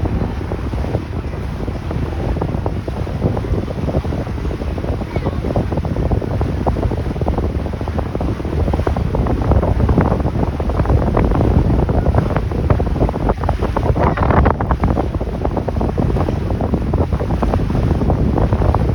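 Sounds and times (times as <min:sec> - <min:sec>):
boat motor rumble: 0:00.0 - 0:18.9
water splashing: 0:00.0 - 0:18.9
wind buffeting microphone: 0:00.0 - 0:18.9.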